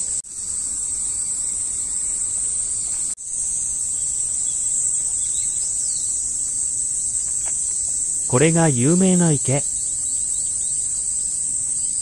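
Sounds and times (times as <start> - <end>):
high-pitched insects shrilling: 0.0 - 12.0.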